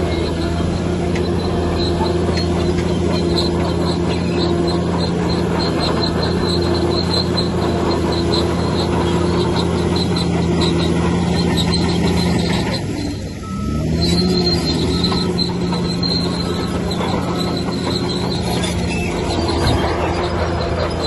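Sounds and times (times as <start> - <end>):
bulldozer diesel engine: 0.0 - 21.0
crawler tracks squeaking: 0.0 - 21.0.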